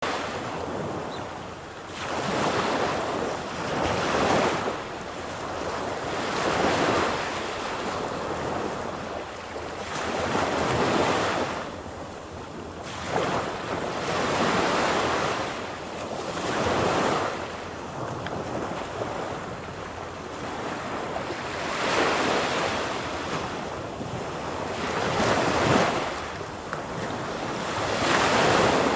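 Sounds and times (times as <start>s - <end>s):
wind buffeting microphone: 2.2s - 28.9s.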